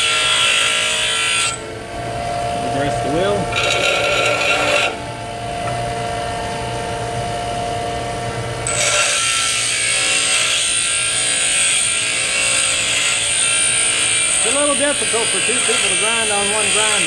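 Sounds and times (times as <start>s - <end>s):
bench grinder humming: 0.0s - 17.0s.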